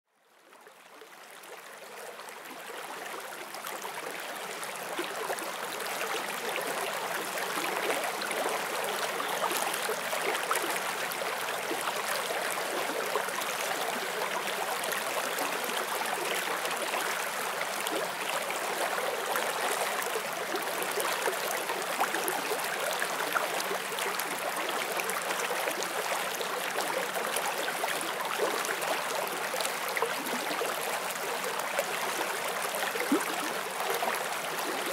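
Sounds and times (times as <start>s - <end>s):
stream flowing over rocks: 0.8s - 34.9s.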